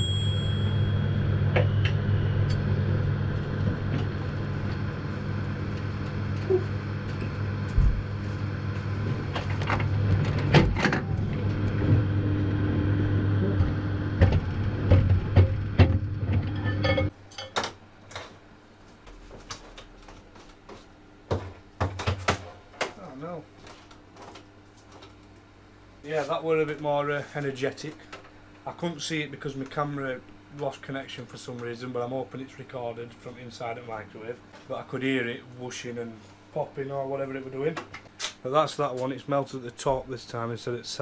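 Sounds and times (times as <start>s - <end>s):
microwave oven humming: 0.0s - 41.0s.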